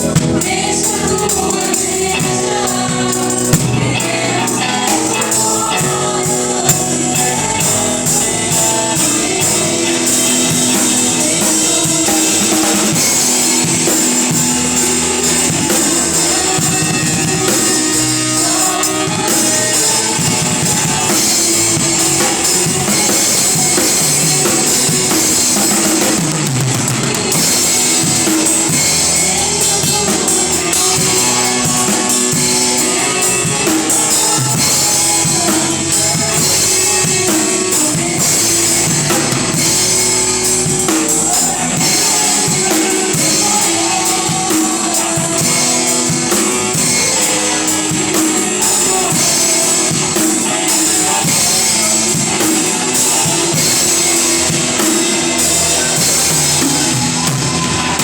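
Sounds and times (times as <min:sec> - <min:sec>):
drum kit beat: 0:00.0 - 0:58.0
gospel band playing: 0:00.0 - 0:58.0
singing: 0:00.0 - 0:58.0.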